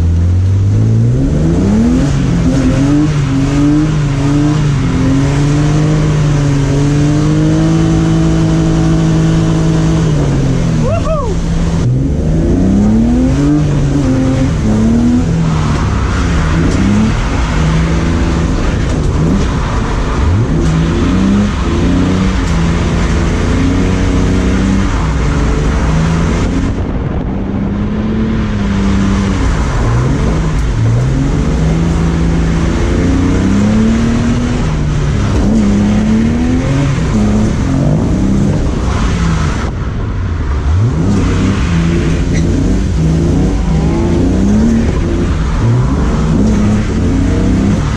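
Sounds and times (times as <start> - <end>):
car engine revving: 0.0 - 47.9
wind and rain rushing: 0.0 - 47.9.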